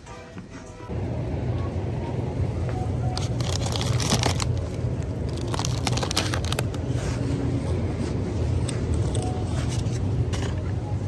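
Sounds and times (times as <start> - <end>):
low store rumble: 0.4 - 11.0.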